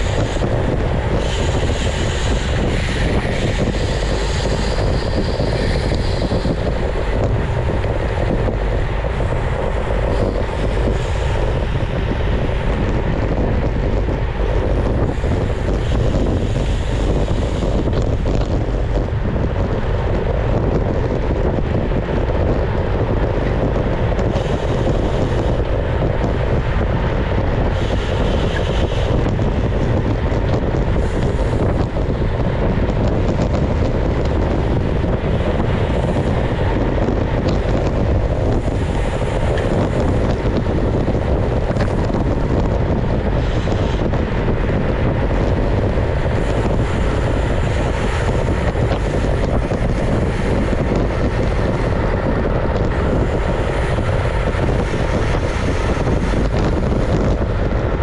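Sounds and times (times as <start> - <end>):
bike tyres rolling on asphalt: 0.0 - 58.0
wind rushing over microphone: 0.0 - 58.0.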